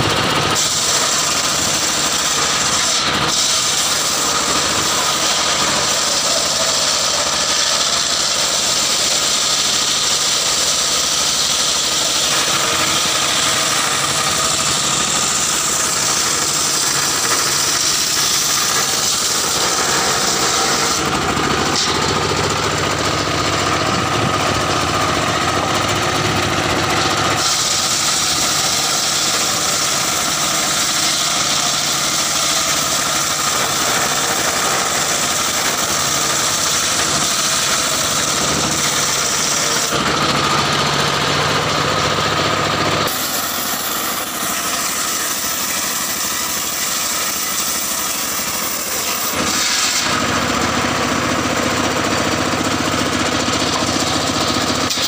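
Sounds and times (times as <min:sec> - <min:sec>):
circular saw blade cutting log: 0:00.0 - 0:55.0
engine running: 0:00.0 - 0:55.0.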